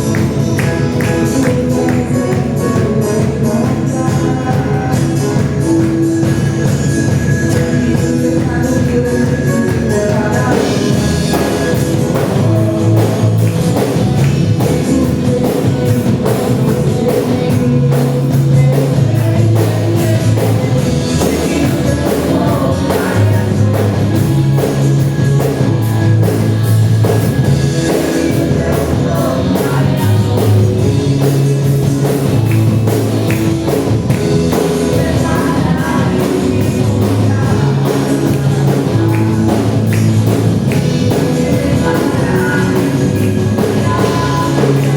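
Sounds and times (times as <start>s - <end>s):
person singing: 0.0s - 44.9s
rock band playing: 0.0s - 44.9s.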